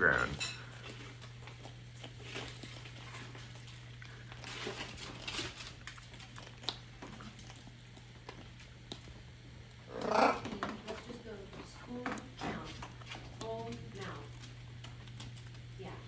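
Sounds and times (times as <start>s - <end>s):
steady low hum: 0.0s - 16.0s
parrot beaks crunching cereal: 0.6s - 16.0s.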